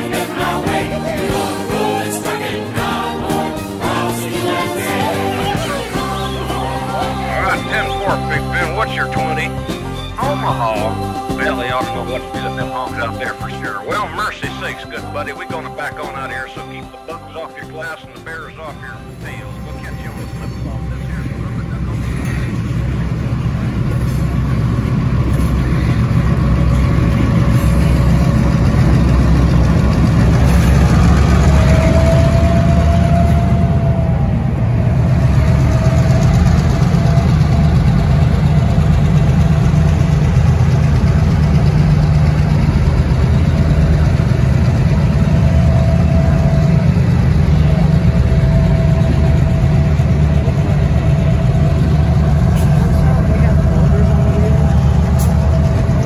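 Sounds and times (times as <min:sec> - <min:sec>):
diesel locomotives rumbling past: 0:00.0 - 0:56.0.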